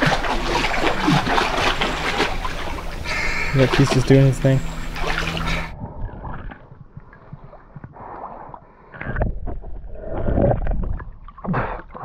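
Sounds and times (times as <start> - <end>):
muffled water sloshing and gurgling: 0.0 - 12.0.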